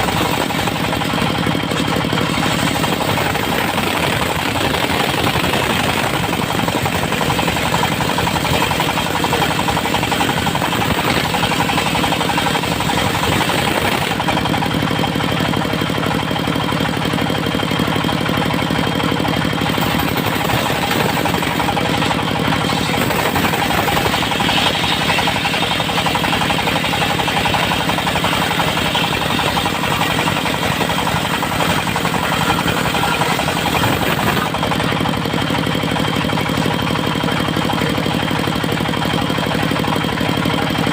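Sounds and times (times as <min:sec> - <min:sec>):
sawmill engine chugging: 0:00.0 - 0:40.9.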